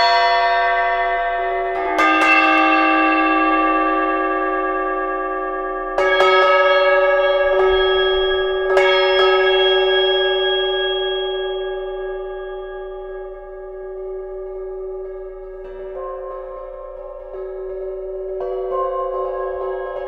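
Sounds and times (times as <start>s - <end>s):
tuned metal percussion strokes: 0.0s - 20.0s.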